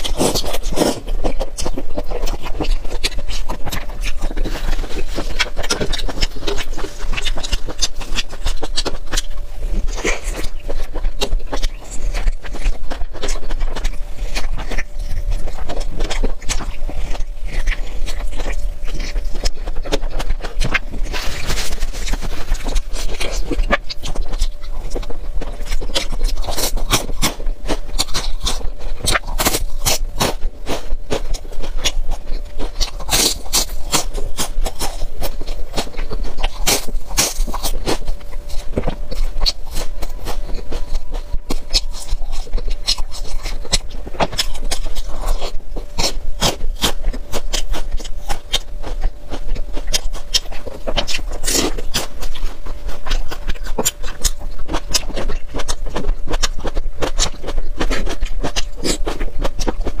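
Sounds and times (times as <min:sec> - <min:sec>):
chewing clicks and mouth smacks: 0:00.0 - 1:00.0.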